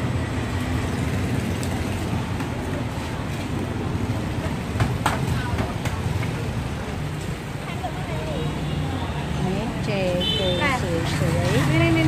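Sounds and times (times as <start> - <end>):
motor traffic rumble: 0.0 - 12.0.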